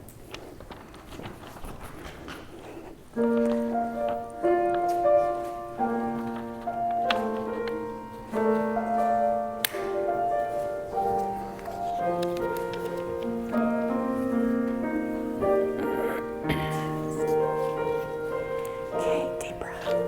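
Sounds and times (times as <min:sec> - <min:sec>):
slow piano music: 0:03.1 - 0:20.0.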